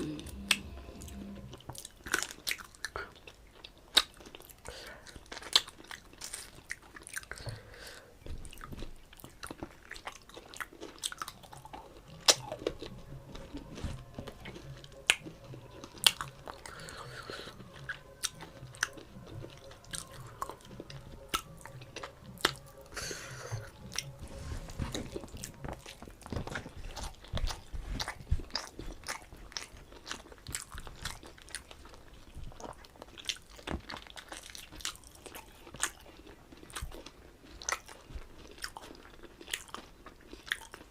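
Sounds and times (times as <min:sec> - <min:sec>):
chewing with wet mouth sounds: 0:00.0 - 0:40.9.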